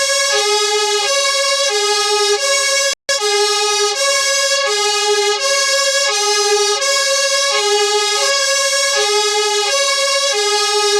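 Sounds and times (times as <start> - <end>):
fire engine two-tone siren: 0.0 - 10.9.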